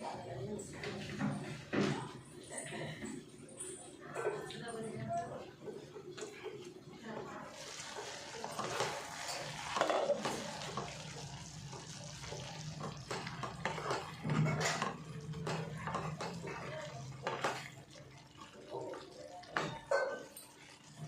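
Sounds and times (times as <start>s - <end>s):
metal utensils and pots clattering: 0.0s - 21.0s.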